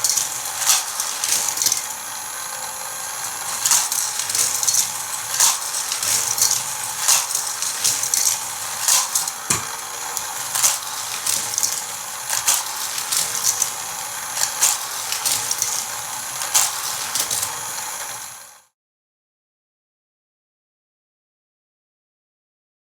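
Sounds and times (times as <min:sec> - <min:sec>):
toy cars clattering on plastic track: 0:00.0 - 0:18.6
motorized toy booster running: 0:00.0 - 0:18.8.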